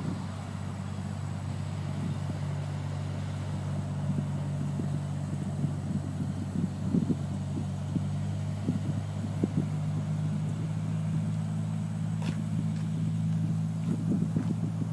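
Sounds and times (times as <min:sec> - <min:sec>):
low engine hum: 0:00.0 - 0:14.9.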